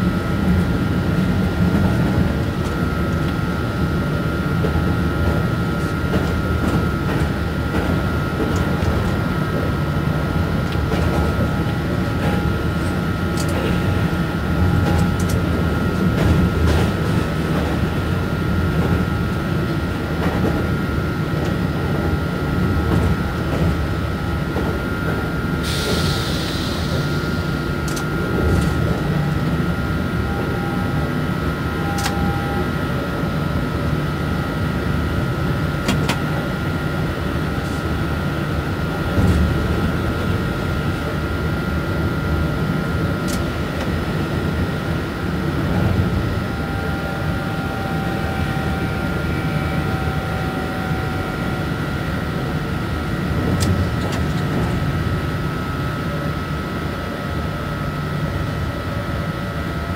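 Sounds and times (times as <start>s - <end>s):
locomotive running gear rumble: 0.0s - 57.5s
constant high whine: 0.0s - 59.9s.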